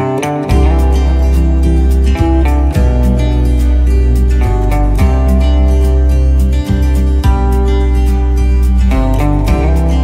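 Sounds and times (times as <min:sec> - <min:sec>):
background music with guitar: 0:00.0 - 0:10.0
sustained bass line: 0:00.0 - 0:10.0.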